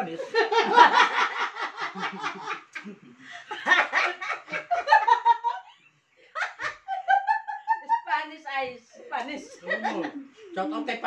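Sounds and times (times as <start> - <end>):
group of adults laughing: 0.0 - 8.1, 9.4 - 10.5.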